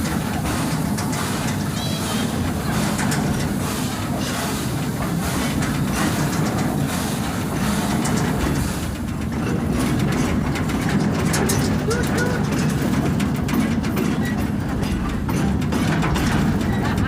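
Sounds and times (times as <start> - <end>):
railway wagon rolling on track: 0.0 - 17.0.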